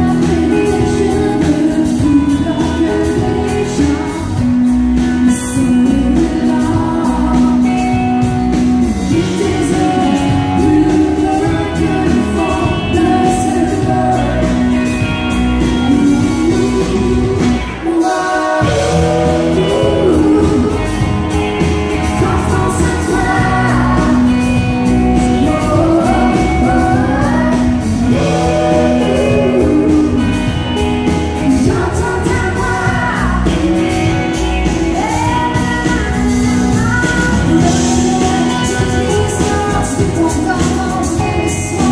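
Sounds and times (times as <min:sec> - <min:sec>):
country band playing: 0:00.0 - 0:41.9
person singing: 0:00.0 - 0:41.9.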